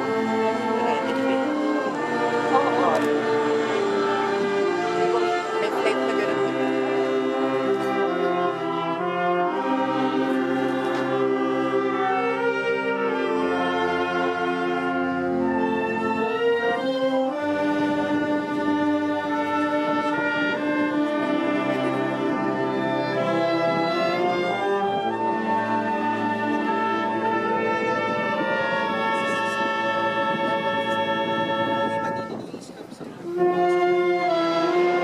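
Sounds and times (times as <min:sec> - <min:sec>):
orchestral music with brass chords: 0:00.0 - 0:32.5, 0:33.2 - 0:35.0.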